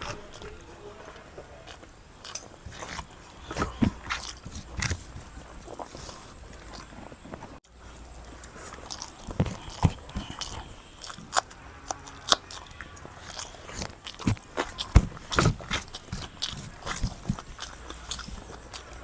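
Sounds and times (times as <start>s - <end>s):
person chewing and crunching: 0.0s - 19.0s.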